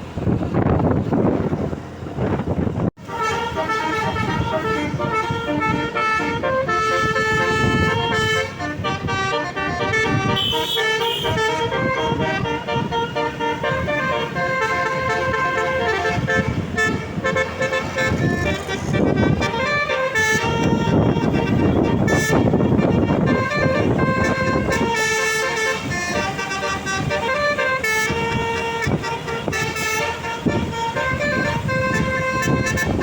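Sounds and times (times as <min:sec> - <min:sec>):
bus musical horn tune: 0:03.0 - 0:33.0.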